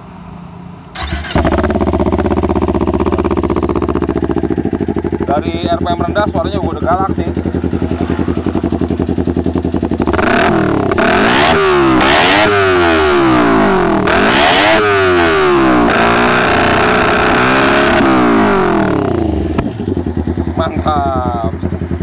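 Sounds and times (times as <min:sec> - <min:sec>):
motorcycle engine revving: 0:01.0 - 0:22.0.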